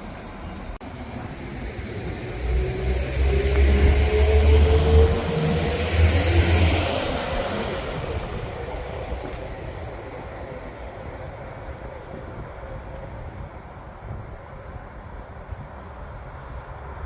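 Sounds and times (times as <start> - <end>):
diesel train engine rumble and whine: 0.0 - 17.0.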